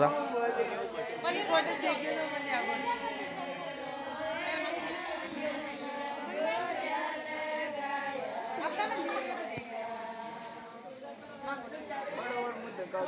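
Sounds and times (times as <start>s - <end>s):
women singing folk song: 0.0s - 12.9s
crowd chatter: 0.0s - 13.0s.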